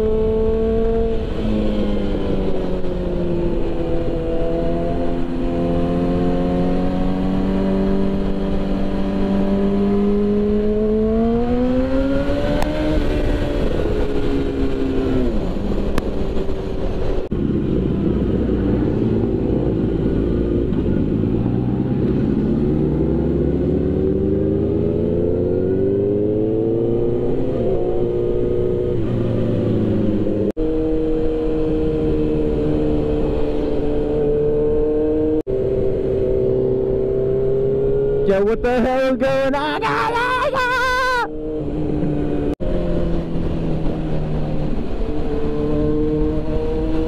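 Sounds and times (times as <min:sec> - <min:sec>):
motorcycle engine accelerating: 0:00.0 - 0:39.1, 0:41.3 - 0:47.0.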